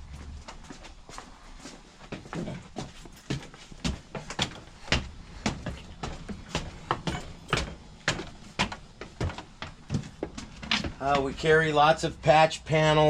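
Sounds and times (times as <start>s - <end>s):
footsteps climbing stairs: 0.0s - 13.0s.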